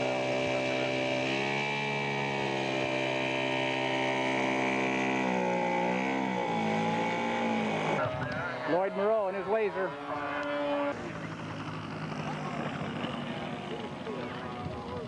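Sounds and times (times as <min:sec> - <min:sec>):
model airplane engine buzzing: 0:00.0 - 0:15.0.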